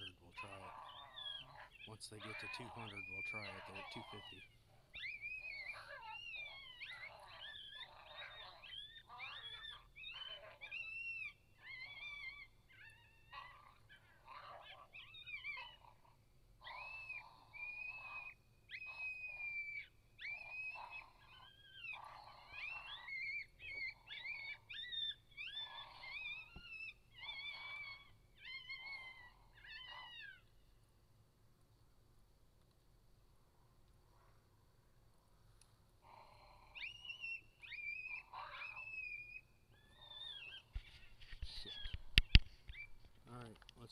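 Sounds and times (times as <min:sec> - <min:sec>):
coyotes howling and yipping: 0:00.0 - 0:30.7, 0:36.0 - 0:43.9.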